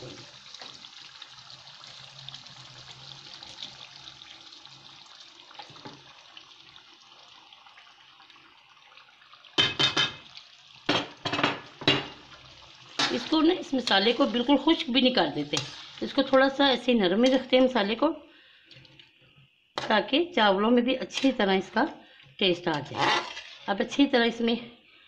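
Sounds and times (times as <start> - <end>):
food sizzling in a pot: 0.0 - 18.2, 19.8 - 24.4.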